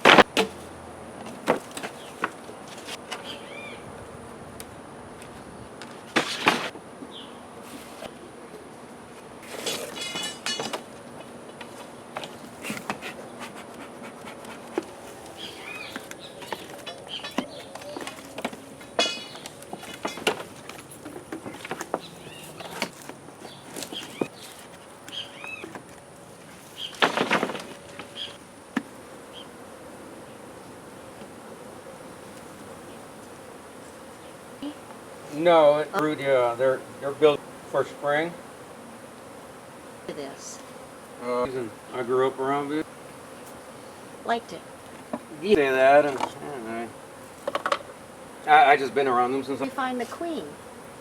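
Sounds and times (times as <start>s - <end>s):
honey bees buzzing: 0.0s - 51.0s.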